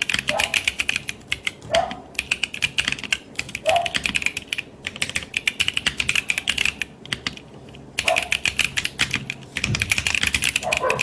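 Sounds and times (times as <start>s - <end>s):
mechanical keyboard key clacks: 0.0s - 11.0s.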